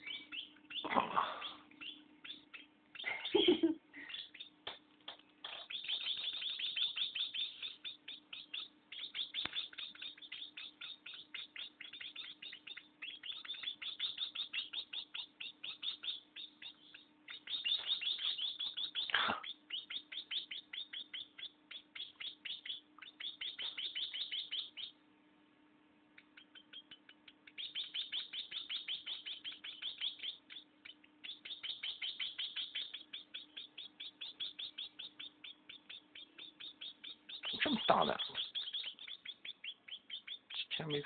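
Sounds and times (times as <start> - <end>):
baby birds chirping: 0.0 - 25.0, 26.1 - 41.0.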